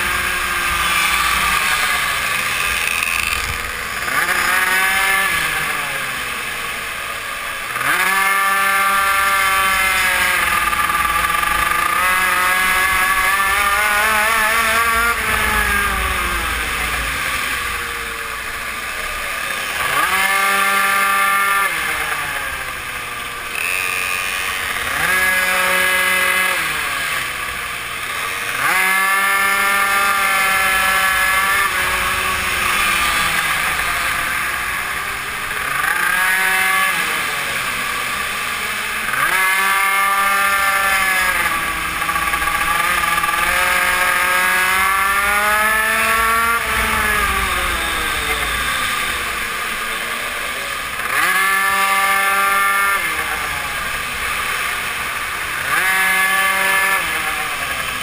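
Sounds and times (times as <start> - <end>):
mini motorbike engine revving: 0.0 - 58.0.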